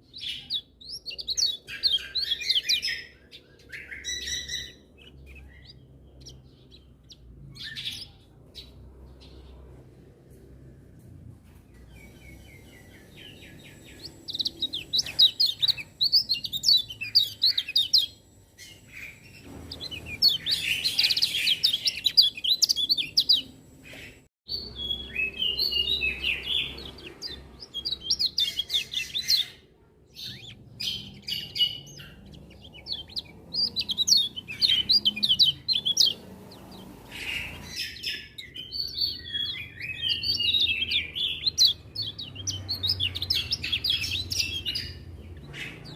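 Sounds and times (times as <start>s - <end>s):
bird twittering: 0.0s - 9.6s, 11.9s - 45.9s.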